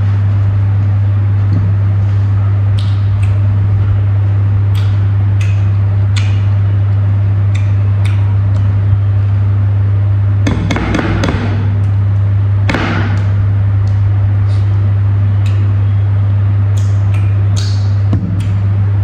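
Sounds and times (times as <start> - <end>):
loud steady low hum: 0.0 - 19.0.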